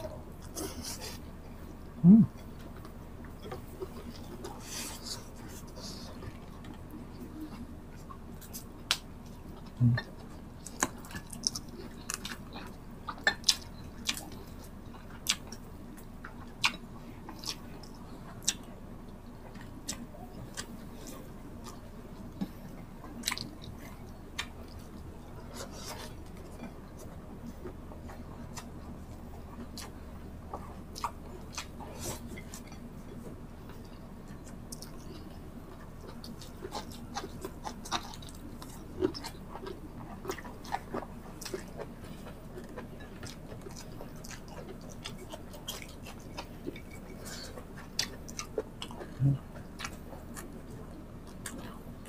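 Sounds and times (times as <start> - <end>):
close chewing and mouth clicks: 0.0 - 52.0
faint low hum: 0.0 - 52.0.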